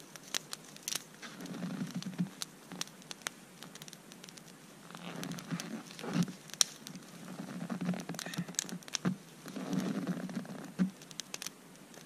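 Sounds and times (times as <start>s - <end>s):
twigs rustling: 0.0s - 12.0s
wood fire crackling: 0.0s - 12.0s.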